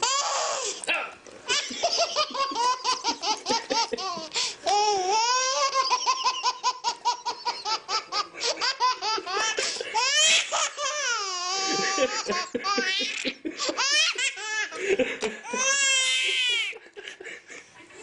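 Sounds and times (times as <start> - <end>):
baby laughing: 0.0 - 0.6, 1.5 - 16.8.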